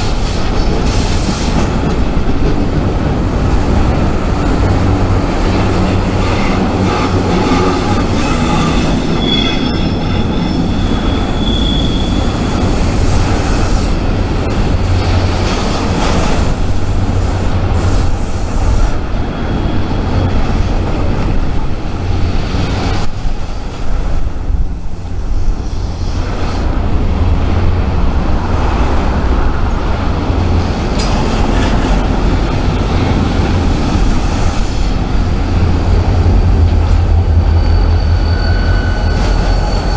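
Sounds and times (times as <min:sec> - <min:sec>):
high wheel squeal: 0:00.0 - 0:23.0, 0:24.9 - 0:39.9
freight train rumbling on rails: 0:00.0 - 0:39.9.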